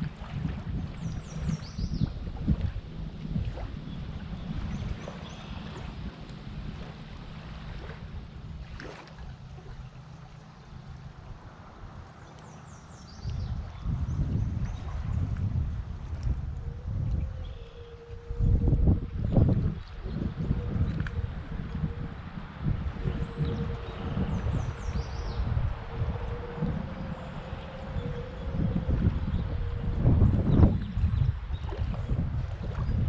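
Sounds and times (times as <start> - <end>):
faint moving water: 0.0 - 33.0
faint steady hum: 0.0 - 33.0
wind on microphone: 0.0 - 33.0.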